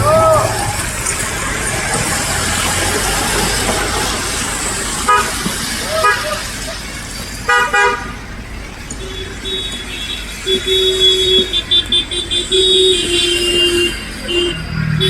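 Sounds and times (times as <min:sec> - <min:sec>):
car horns honking: 0:00.0 - 0:15.0
road traffic noise: 0:00.0 - 0:15.0.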